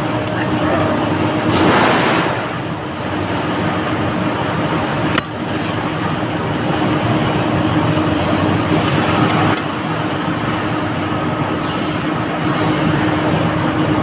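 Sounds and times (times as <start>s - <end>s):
constant hum: 0.0s - 14.0s.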